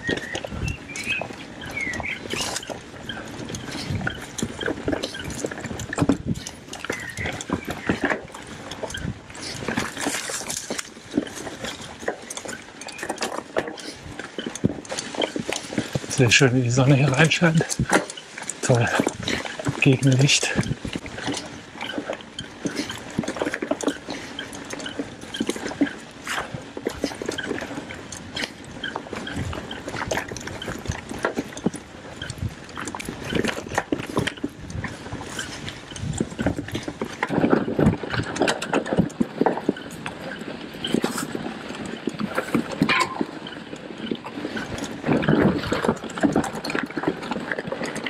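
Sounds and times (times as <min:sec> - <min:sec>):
bike knocking and rattling: 0:00.0 - 0:48.0
bike tyres on dirt: 0:00.0 - 0:48.0.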